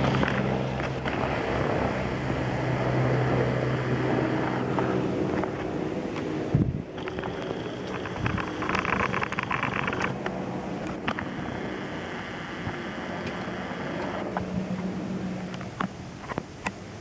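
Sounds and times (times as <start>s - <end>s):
helicopter rotor passing overhead: 0.0s - 17.0s.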